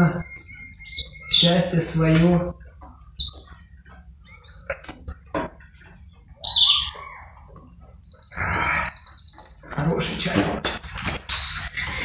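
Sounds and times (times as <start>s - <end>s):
small bird chirping: 0.0s - 2.5s, 3.2s - 12.0s.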